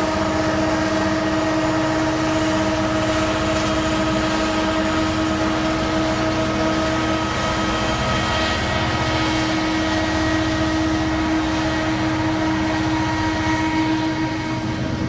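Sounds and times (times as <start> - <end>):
constant whine: 0.0 - 15.0.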